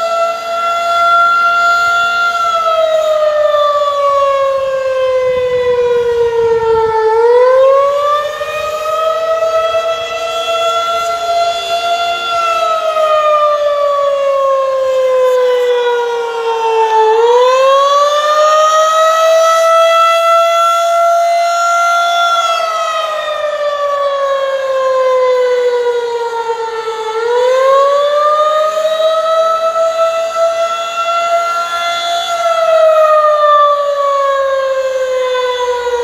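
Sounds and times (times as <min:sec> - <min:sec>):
warning siren wailing: 0:00.0 - 0:36.0.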